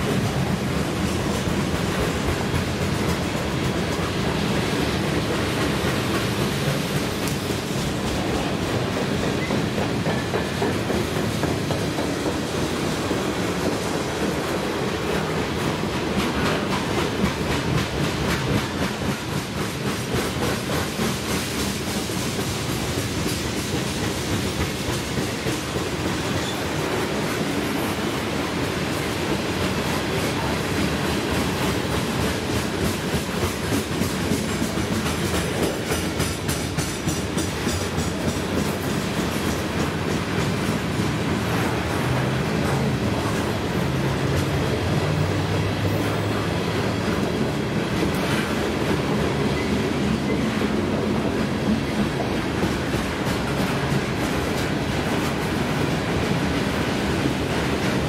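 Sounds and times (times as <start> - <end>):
clickety-clack of train wheels: 0.0 - 58.0
steel wheels rumbling on rail: 0.0 - 58.0.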